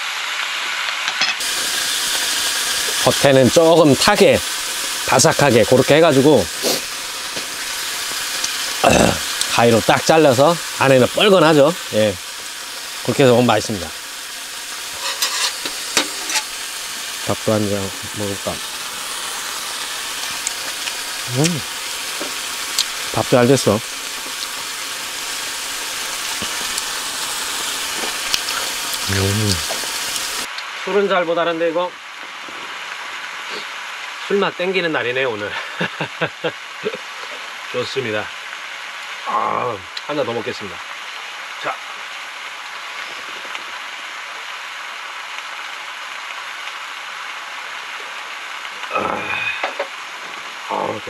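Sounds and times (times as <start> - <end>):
food sizzling in pan: 0.0 - 51.0.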